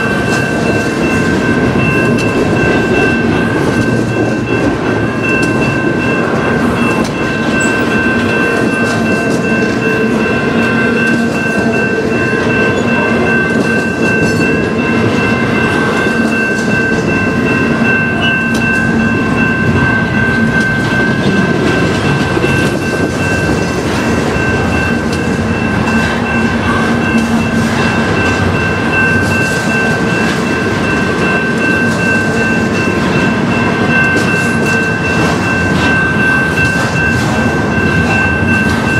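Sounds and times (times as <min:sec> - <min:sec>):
level crossing bell ringing: 0:00.0 - 0:38.9
train wheels rumbling on rail: 0:00.0 - 0:38.9.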